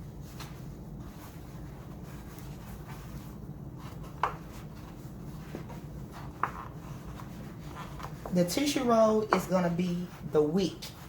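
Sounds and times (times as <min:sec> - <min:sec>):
paper rustling and scraping: 0:00.0 - 0:08.9.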